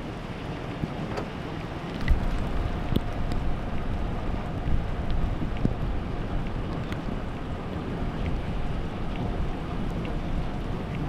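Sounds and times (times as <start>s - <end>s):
rain: 0.0s - 11.0s
gusty wind on microphone: 1.9s - 11.0s.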